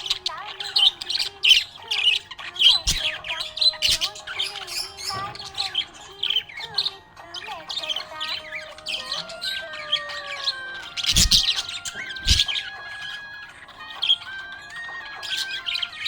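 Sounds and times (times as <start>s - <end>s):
background music: 0.0s - 16.0s
budgerigar chirping and squawking: 0.0s - 16.0s.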